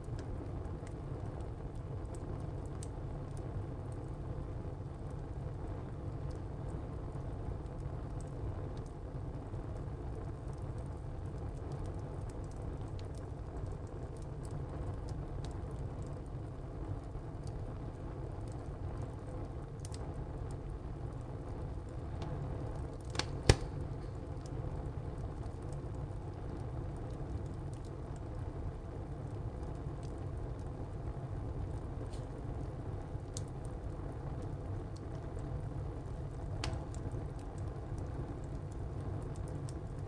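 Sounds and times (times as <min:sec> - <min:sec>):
burning wood crackling: 0:00.0 - 0:40.0
wood fire low rumble: 0:00.0 - 0:40.0.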